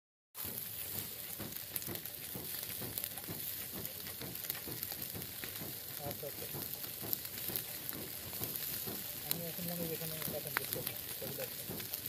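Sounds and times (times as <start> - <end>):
fish sizzling on a charcoal grill: 0.4 - 12.0
small crackles: 0.4 - 12.0.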